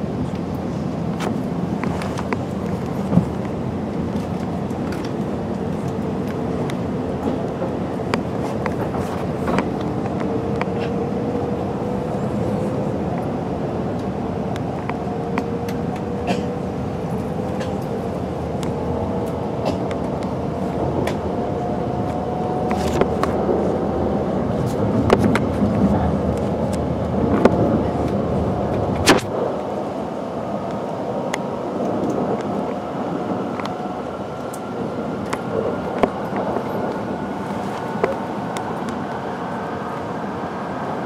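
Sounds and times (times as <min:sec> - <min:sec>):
train cabin rumble: 0:00.0 - 0:41.0.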